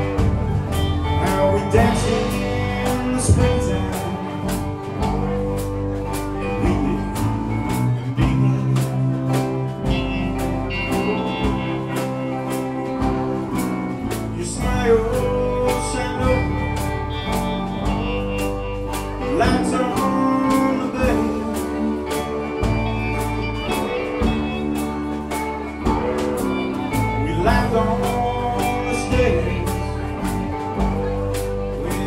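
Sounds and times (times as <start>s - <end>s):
acoustic and electric guitars: 0.0s - 32.0s
bass guitar: 0.0s - 32.0s
drum kit beat: 0.0s - 32.0s
rock band playing: 0.0s - 32.0s.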